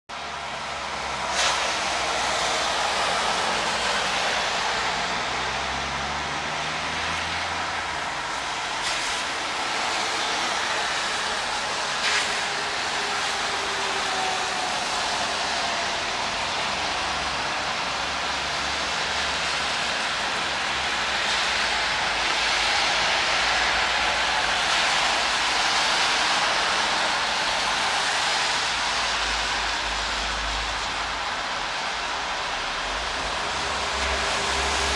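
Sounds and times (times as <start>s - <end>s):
car tyres hissing on wet road: 0.1s - 34.9s.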